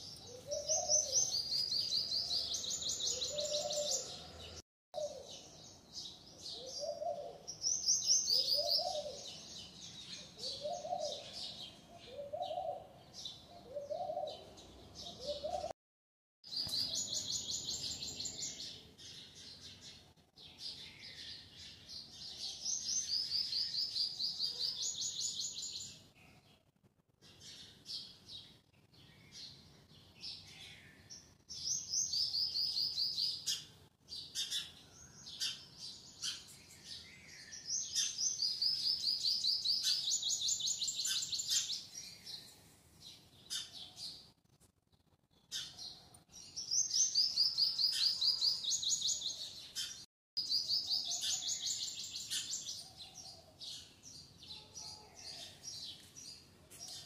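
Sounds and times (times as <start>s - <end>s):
small birds chirping trills: 0.0s - 15.7s, 16.5s - 57.0s.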